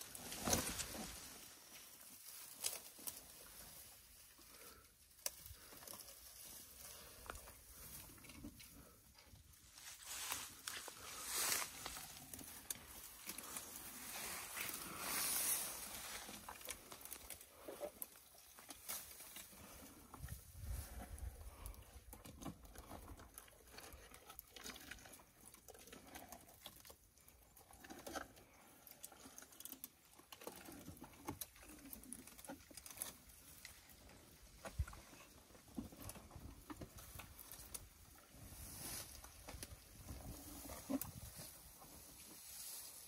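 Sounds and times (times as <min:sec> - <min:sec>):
rustling of dry grass and branches: 0:00.0 - 0:26.9, 0:29.4 - 0:43.0
elephants chewing vegetation: 0:00.0 - 0:43.0.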